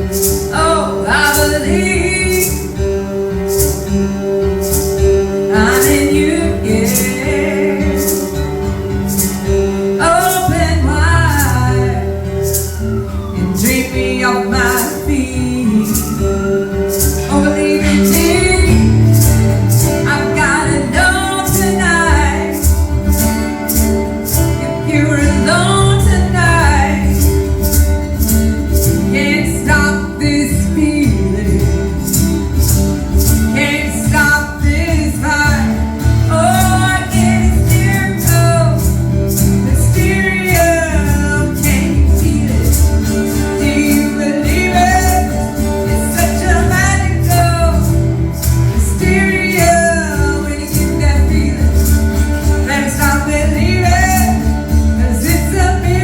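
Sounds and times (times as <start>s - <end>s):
person singing: 0.0s - 3.8s, 4.5s - 56.0s
instrumental backing: 0.0s - 56.0s.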